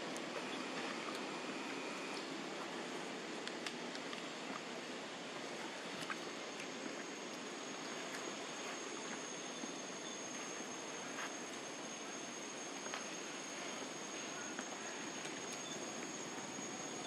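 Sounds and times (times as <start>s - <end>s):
high continuous whine: 0.0s - 17.0s
outdoor background hiss: 0.0s - 17.0s.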